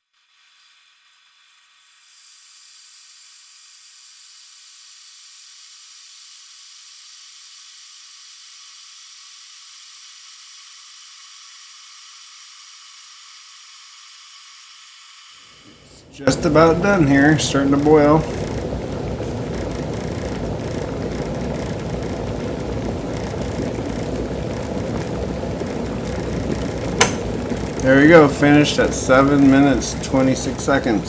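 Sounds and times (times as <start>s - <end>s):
electric kettle hissing: 0.0s - 31.0s.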